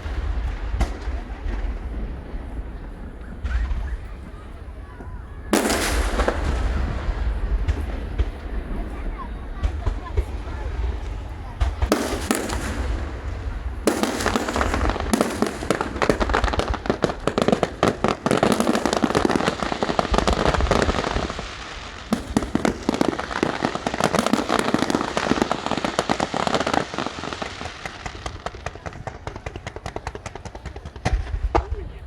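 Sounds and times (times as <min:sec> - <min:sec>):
fireworks crackling barrage: 0:00.0 - 0:32.0.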